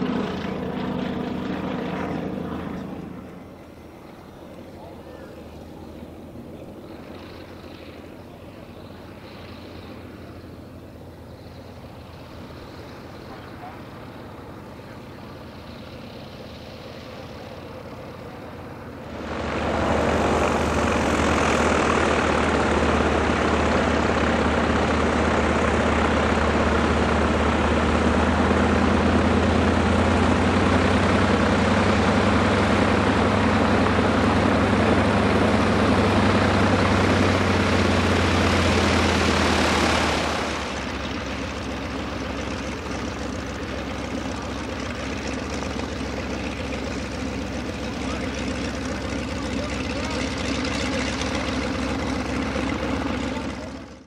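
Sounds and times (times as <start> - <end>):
loud close radial engine drone: 0.0 - 54.0
radial aircraft engines running: 0.0 - 54.0.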